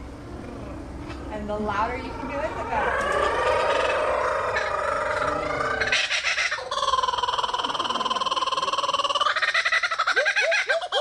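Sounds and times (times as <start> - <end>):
kookaburra calling: 1.8 - 11.0.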